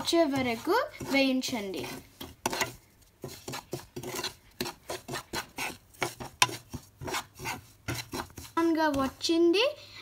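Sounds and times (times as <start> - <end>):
spatula scraping a pan: 0.0 - 9.5.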